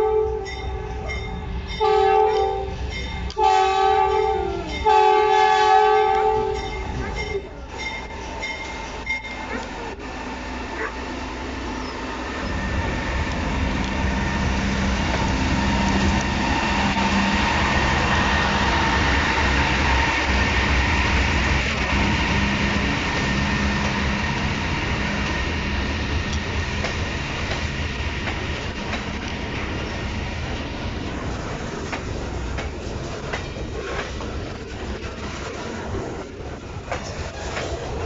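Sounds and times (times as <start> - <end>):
diesel train passing: 0.0 - 38.0.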